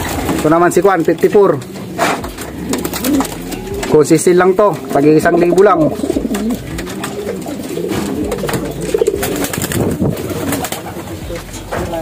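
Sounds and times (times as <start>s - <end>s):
pigeons cooing: 0.0s - 11.7s.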